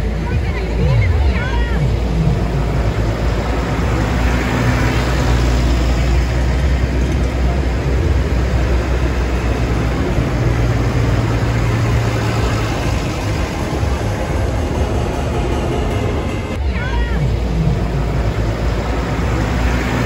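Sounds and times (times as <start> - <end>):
road and mechanical noise: 0.0 - 20.0
tractor diesel engine running: 0.0 - 20.0.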